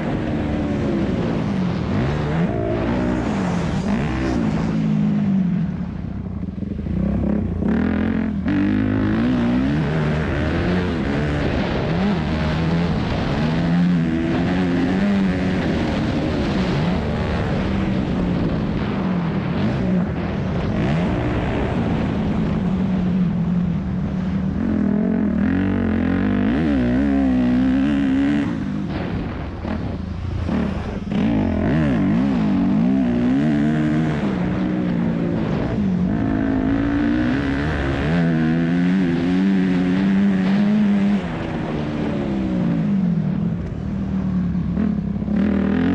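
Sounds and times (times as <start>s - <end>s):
motocross engine revving: 0.0s - 5.4s, 6.9s - 22.9s, 24.5s - 43.0s.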